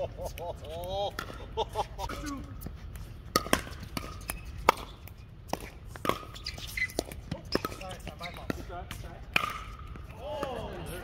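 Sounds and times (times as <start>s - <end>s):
paddles striking pickleball: 0.2s - 10.9s.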